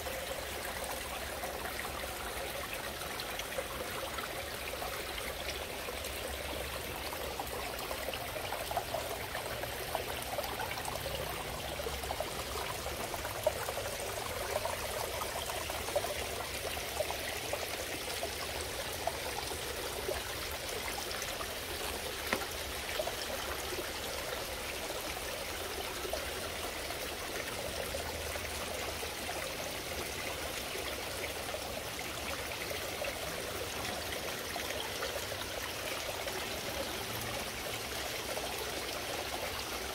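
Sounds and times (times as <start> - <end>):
fountain water splashing into pond: 0.0 - 39.9.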